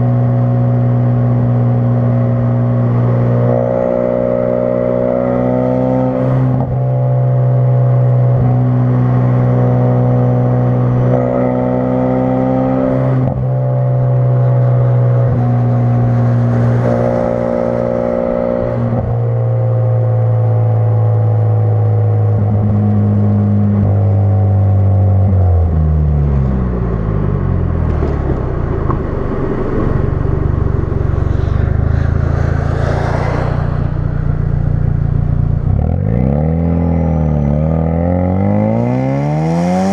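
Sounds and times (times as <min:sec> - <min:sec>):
car engine driving: 0:00.0 - 0:39.9.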